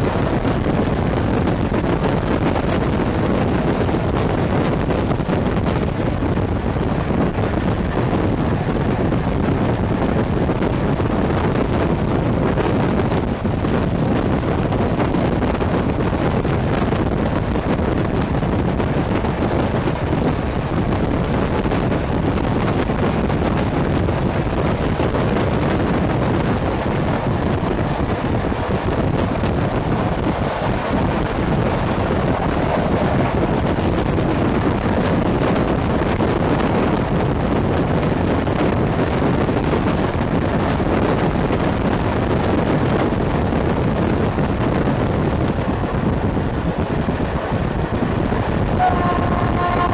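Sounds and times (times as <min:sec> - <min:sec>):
passenger train running: 0:00.0 - 0:49.9
wind rushing over microphone: 0:00.0 - 0:49.9.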